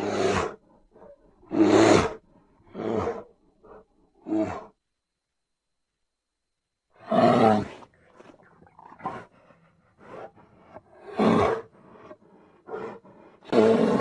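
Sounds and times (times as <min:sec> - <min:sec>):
bear roaring: 0:00.0 - 0:04.8, 0:07.0 - 0:14.0.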